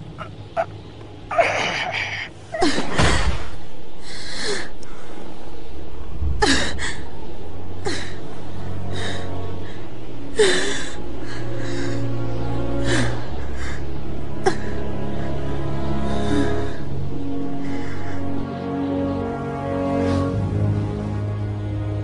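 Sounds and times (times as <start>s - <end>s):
low music drone: 0.0s - 22.0s.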